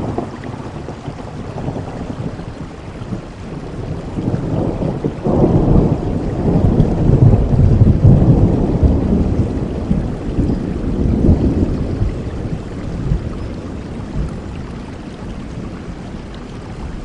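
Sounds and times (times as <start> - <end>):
low rumble of thunder: 0.0 - 17.0
rain falling: 0.0 - 17.0.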